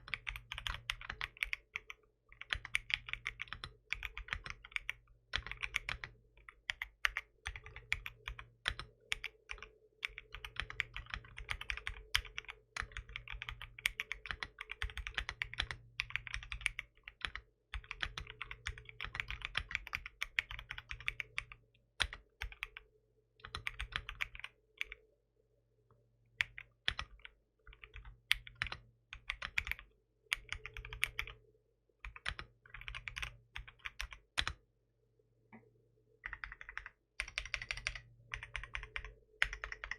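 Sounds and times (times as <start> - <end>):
mechanical keyboard typing: 0.0 - 22.8, 23.4 - 25.0, 26.4 - 31.4, 32.0 - 34.6, 36.2 - 39.9.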